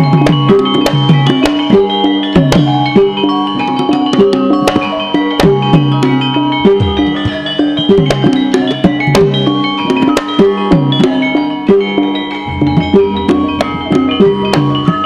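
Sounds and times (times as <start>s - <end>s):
ringing metallophone notes: 0.0s - 15.0s.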